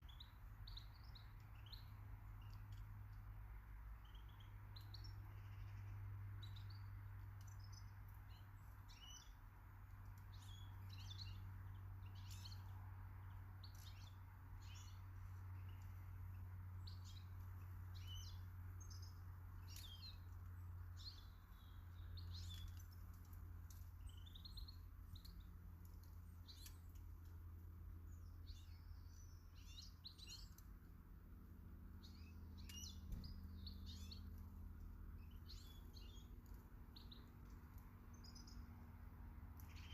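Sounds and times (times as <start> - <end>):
faint low hum: 0.0 - 39.9
birds chirping and calling: 3.9 - 27.2, 28.1 - 30.8, 31.9 - 39.9.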